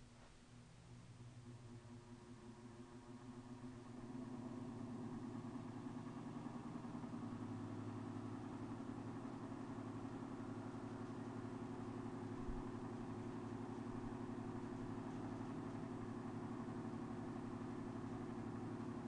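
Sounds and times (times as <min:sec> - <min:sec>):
electric fan running: 0:00.1 - 0:19.0.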